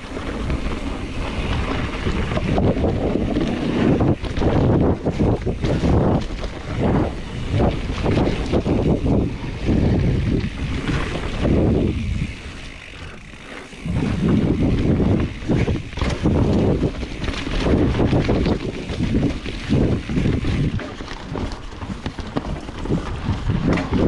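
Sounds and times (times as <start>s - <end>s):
bike knocking and rattling: 0.0s - 24.0s
bike tyre noise on dirt: 0.0s - 24.0s
wind buffeting microphone: 0.0s - 24.0s.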